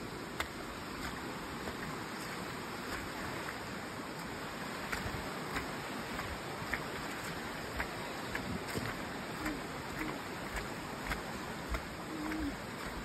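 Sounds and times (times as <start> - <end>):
steady rushing noise: 0.0 - 13.0
footsteps on leaves and dirt: 0.9 - 13.0
leaves crackling underfoot: 0.9 - 13.0.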